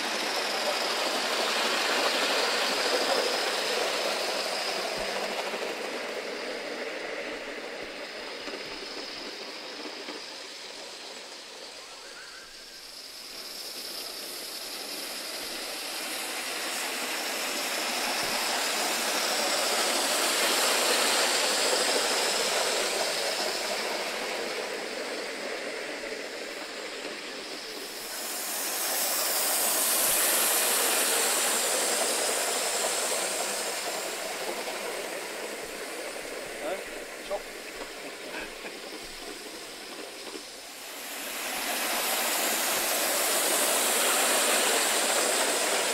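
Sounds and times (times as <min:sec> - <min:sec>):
model train running on rails: 0:00.0 - 0:45.9
steam hiss: 0:00.0 - 0:45.9.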